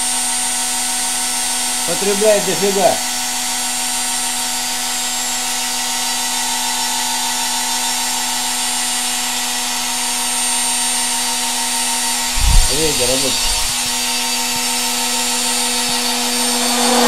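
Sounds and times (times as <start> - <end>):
electric motor humming and whining: 3.1 - 17.0.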